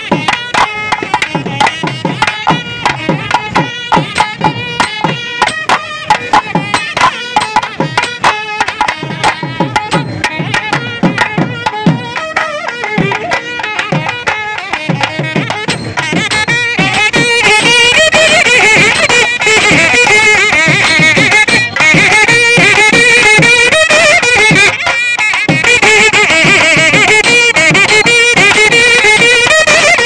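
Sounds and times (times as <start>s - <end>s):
instrumental melody: 0.0s - 30.0s.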